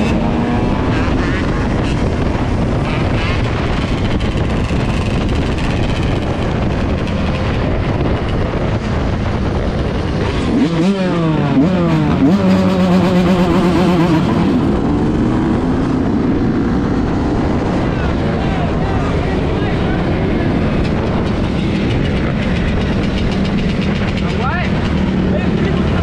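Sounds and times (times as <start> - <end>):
motorcycle engine: 0.0 - 26.0
wind rushing over microphone: 0.0 - 26.0.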